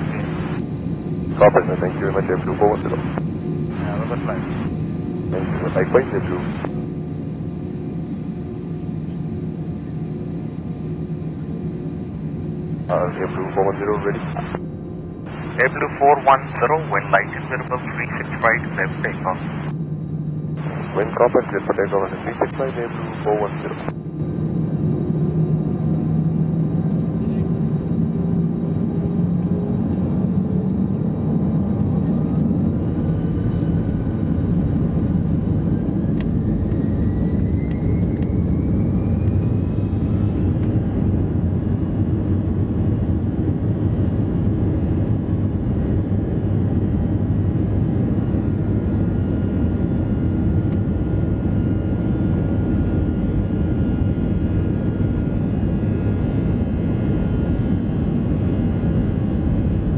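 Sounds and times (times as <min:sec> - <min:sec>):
rumble of takeoff run: 0:00.0 - 0:59.9.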